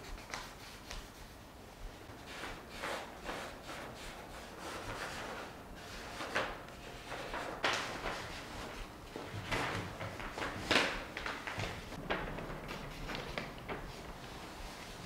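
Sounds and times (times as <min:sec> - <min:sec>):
paper rustling and crinkling: 0:02.2 - 0:15.0.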